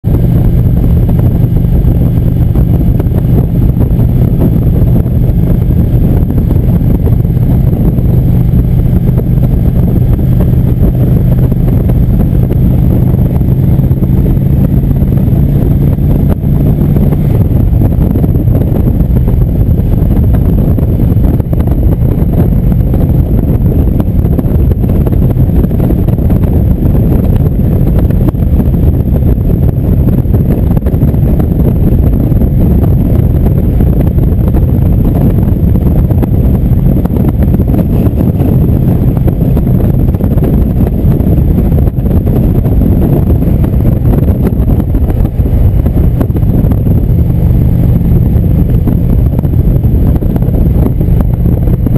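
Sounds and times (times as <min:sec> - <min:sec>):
motorcycle engine cruising: 0:00.0 - 0:51.9
wind buffeting microphone: 0:00.0 - 0:51.9.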